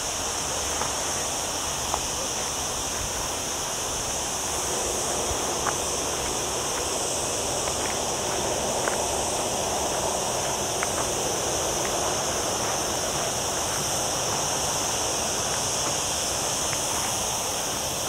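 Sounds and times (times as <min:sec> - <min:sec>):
cicadas droning: 0:00.0 - 0:18.0
rushing hiss: 0:00.0 - 0:18.0.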